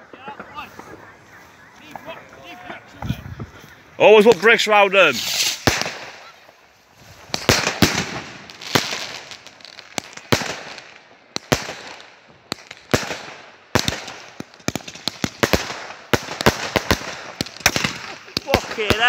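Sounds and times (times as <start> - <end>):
fireworks bangs: 0.0 - 19.0
fireworks hissing crackle: 0.0 - 19.0.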